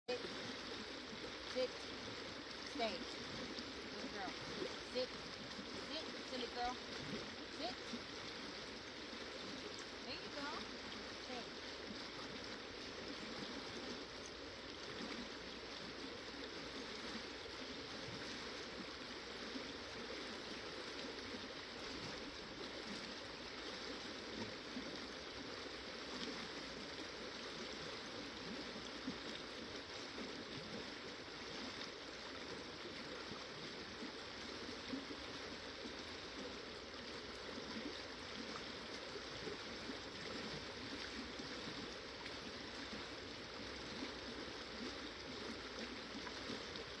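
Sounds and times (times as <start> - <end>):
river water over rocks: 0.1 - 47.0.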